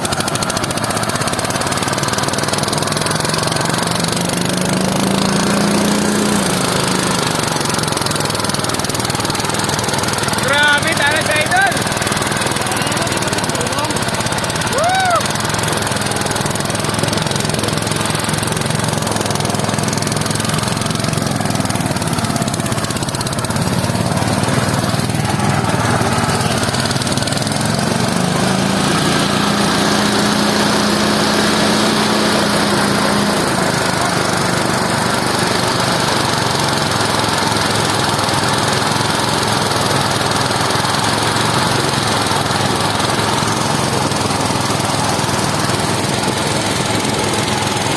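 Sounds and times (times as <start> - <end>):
harvesting machine engine running: 0.0 - 47.9.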